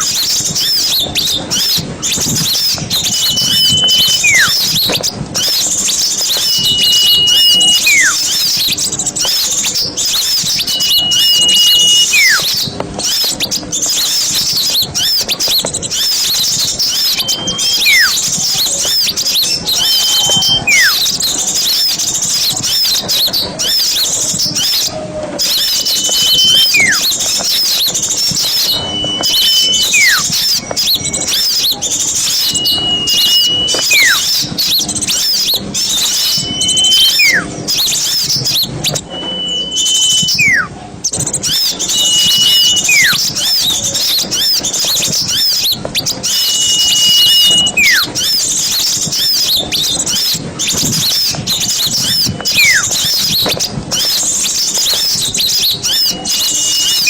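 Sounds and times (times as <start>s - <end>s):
songbirds chirping and twittering: 0.0s - 57.0s
whistled bird call slurring down: 0.0s - 57.0s.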